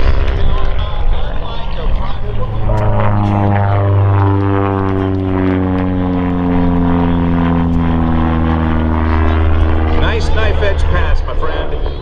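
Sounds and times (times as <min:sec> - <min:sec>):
propeller plane flying by: 0:00.0 - 0:12.0.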